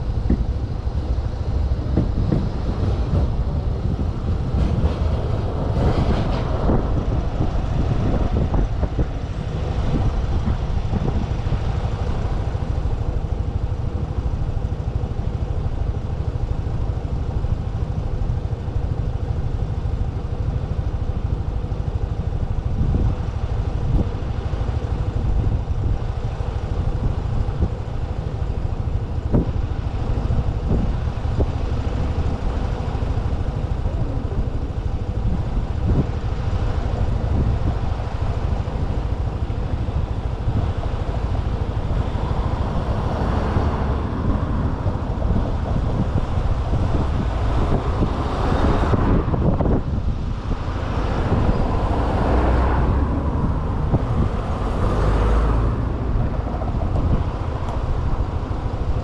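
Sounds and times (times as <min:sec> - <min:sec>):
motorcycle engine hum: 0:00.0 - 0:59.0
road and wind rumble: 0:00.0 - 0:59.0
rushing noise: 0:00.0 - 0:59.0.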